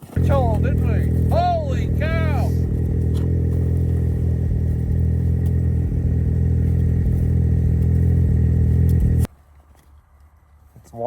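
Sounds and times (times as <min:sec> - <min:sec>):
small engine running: 0:00.0 - 0:09.3.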